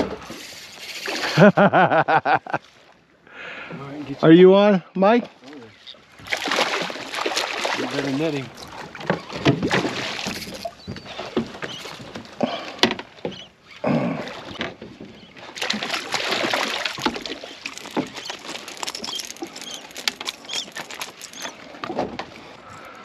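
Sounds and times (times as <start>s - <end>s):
water splashing: 0.0s - 3.1s, 5.2s - 23.0s.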